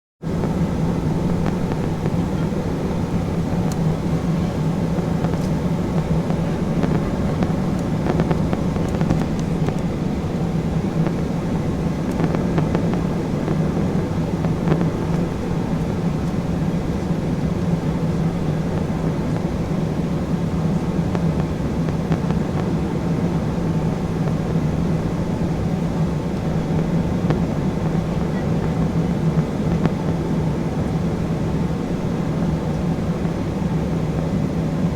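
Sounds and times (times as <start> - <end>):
air rushing along fuselage: 0.2 - 34.9
jet engines droning: 0.2 - 34.9.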